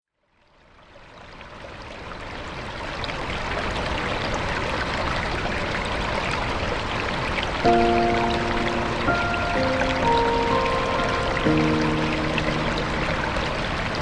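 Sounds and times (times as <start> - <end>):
stream water flowing: 0.5 - 14.0.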